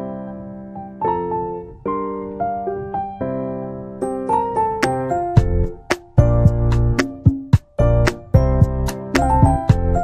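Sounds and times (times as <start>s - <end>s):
gentle piano chords: 0.0s - 10.0s.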